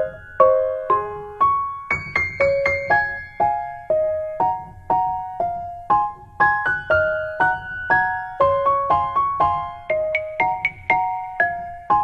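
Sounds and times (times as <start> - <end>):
simple piano melody: 0.0 - 12.0.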